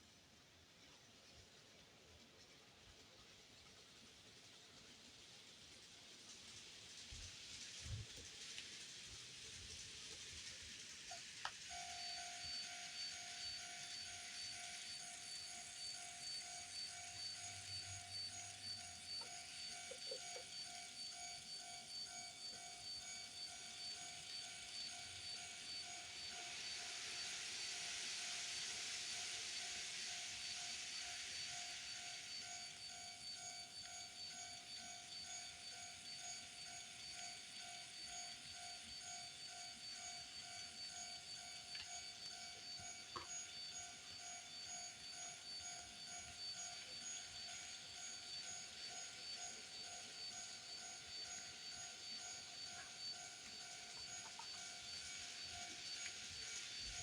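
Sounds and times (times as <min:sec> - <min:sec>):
model train running: 0:00.0 - 0:57.0
level-crossing warning bell: 0:11.1 - 0:57.0.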